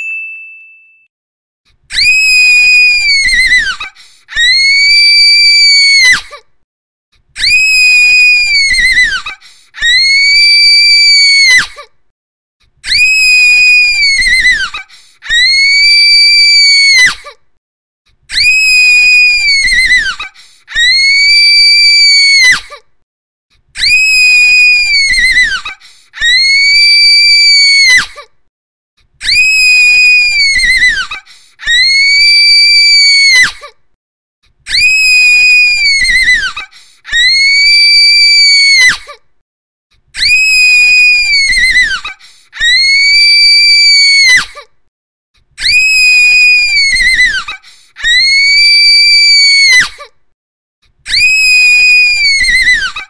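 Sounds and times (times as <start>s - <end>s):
girl screaming: 1.9s - 6.4s, 7.4s - 11.8s, 12.8s - 17.3s, 18.3s - 22.8s, 23.8s - 28.3s, 29.2s - 33.8s, 34.7s - 39.2s, 40.2s - 44.7s, 45.6s - 50.1s, 51.1s - 53.0s.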